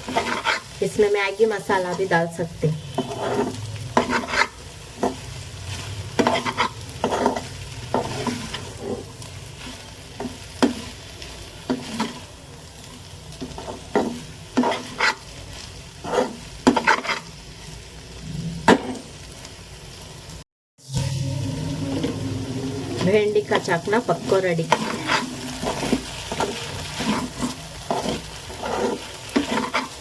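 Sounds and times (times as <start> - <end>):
spoon scraping pan: 0.0 - 12.3, 13.4 - 17.3, 21.9 - 30.0
food sizzling in a pan: 0.0 - 30.0.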